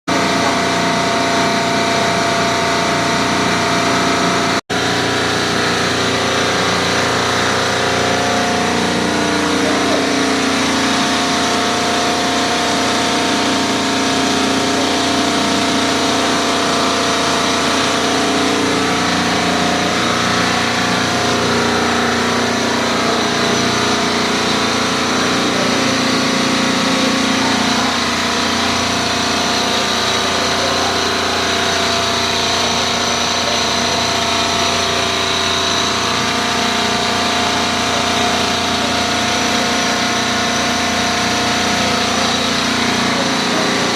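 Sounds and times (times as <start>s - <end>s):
refrigeration compressor running: 0.0s - 43.9s.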